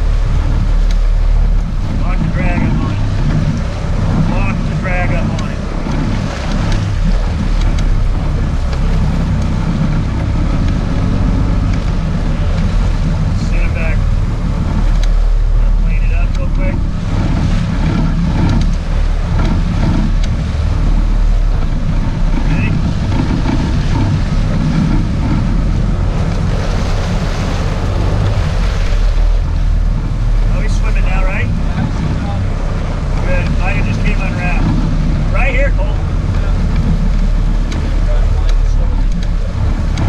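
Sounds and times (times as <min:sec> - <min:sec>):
boat engine low rumble: 0:00.0 - 0:40.0
water washing at stern: 0:00.0 - 0:40.0
wind buffeting microphone: 0:00.0 - 0:40.0.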